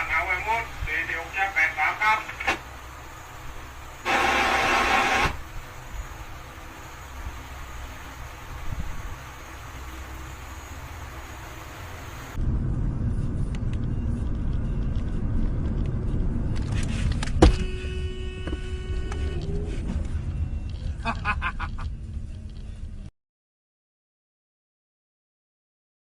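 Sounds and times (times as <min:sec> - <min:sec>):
vehicle road noise rumble: 0:00.0 - 0:23.1.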